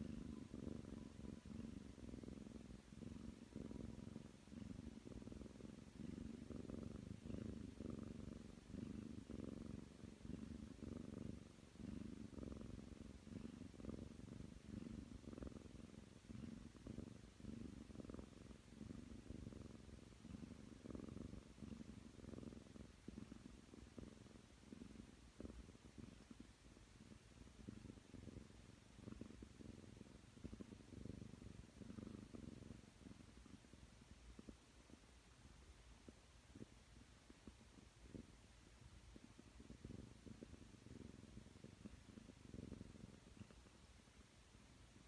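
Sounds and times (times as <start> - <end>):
cat purring: 0.0 - 45.0.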